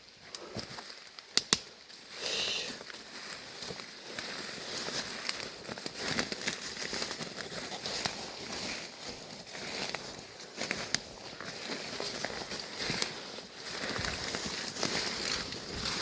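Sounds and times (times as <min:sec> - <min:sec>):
rustling leaves and brush: 0:00.0 - 0:16.0
twigs crackling and snapping: 0:00.2 - 0:02.2, 0:02.8 - 0:16.0.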